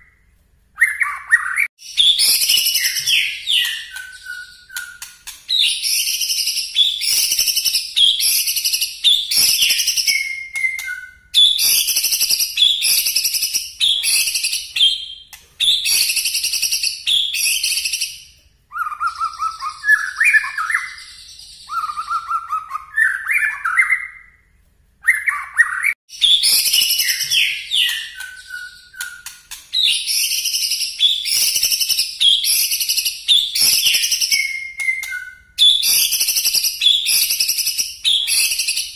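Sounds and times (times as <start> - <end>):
bird singing whistled phrases: 0.0 - 24.4, 25.0 - 38.9.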